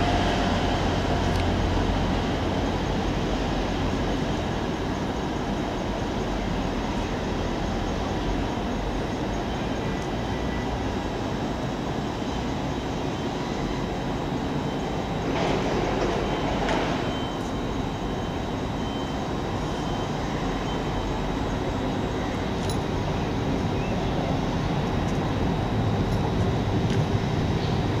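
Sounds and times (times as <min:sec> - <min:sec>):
diesel train engines running: 0:00.0 - 0:28.0
train wheels rumbling: 0:00.0 - 0:28.0.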